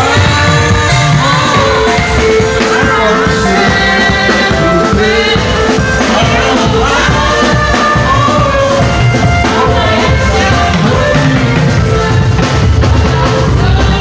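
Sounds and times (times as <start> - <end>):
drum kit with cymbals: 0.0 - 14.0
keyboard chords: 0.0 - 14.0
voices singing: 0.0 - 14.0.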